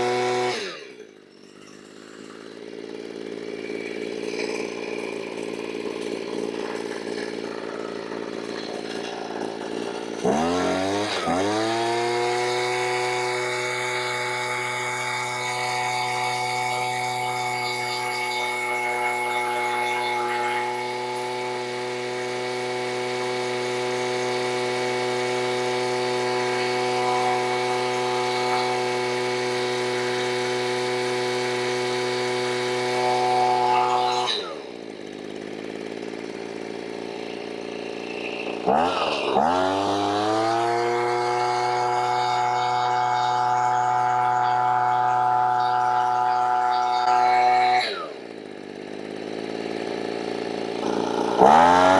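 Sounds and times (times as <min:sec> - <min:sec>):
leaf blower engine running: 0:00.0 - 0:51.9.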